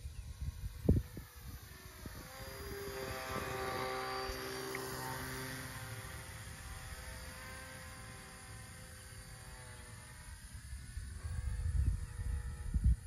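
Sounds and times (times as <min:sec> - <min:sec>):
model airplane propeller buzzing: 0:00.0 - 0:13.0.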